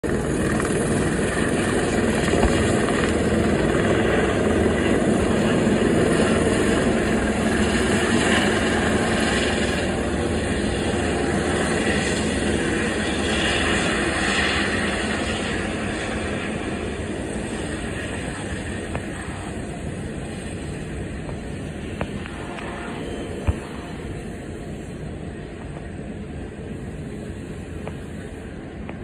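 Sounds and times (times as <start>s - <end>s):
helicopter turbine and rotor: 0.0s - 29.0s.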